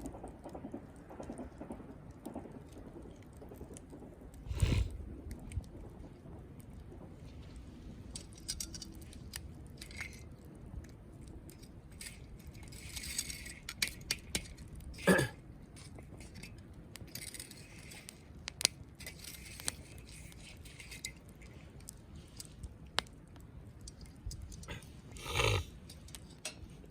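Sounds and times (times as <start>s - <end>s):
campfire crackling: 0.0s - 26.9s
fire snapping and popping: 0.0s - 26.9s.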